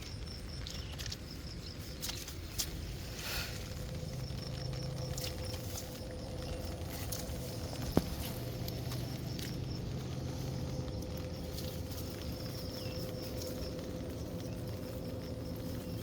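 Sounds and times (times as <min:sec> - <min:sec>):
faint steady hum: 0:00.0 - 0:16.0
rain pattering: 0:00.0 - 0:16.0.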